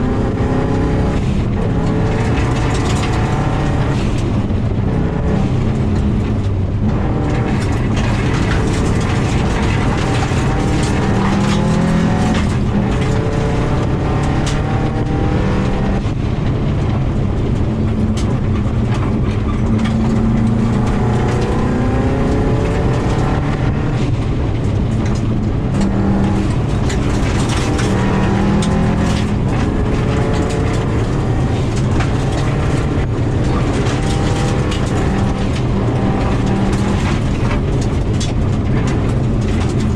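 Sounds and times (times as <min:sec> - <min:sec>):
car engine revving: 0:00.0 - 0:39.9
stones clattering against car: 0:00.3 - 0:16.6, 0:17.5 - 0:39.9.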